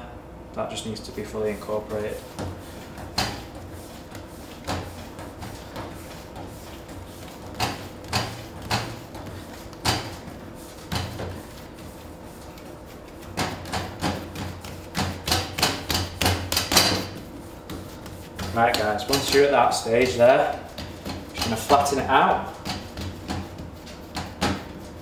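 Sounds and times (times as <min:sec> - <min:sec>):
dough thumping on metal worktop: 0:02.1 - 0:25.0.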